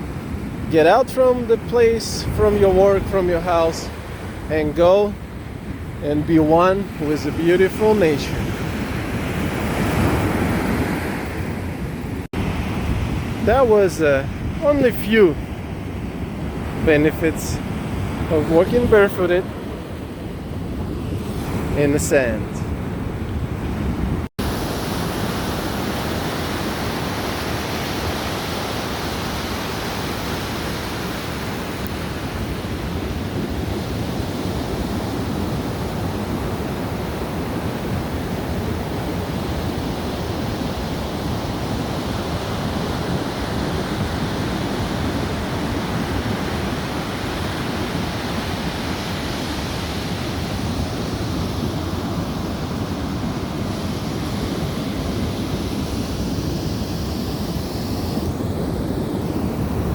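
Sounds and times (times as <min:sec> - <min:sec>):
ocean surf: 0:00.0 - 0:59.9
wind on microphone: 0:02.2 - 0:59.9.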